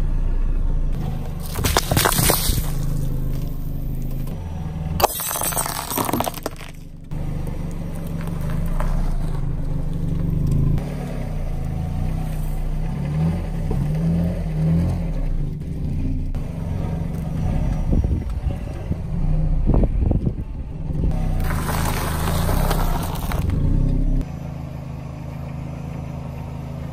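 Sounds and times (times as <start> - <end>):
car engine running slowly: 0.0 - 5.0, 6.5 - 26.9
crunching under a tyre: 0.9 - 20.4, 21.0 - 24.2.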